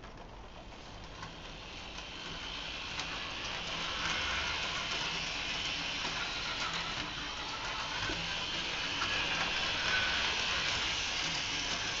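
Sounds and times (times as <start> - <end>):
wheels rattling on rails: 0.0 - 12.0
electric motor whir: 1.7 - 12.0.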